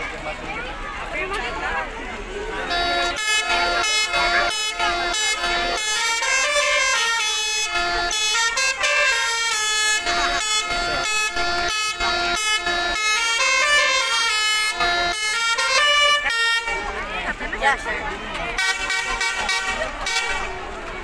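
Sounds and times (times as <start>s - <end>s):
musical bus horn melody: 2.6s - 17.1s, 18.6s - 20.9s.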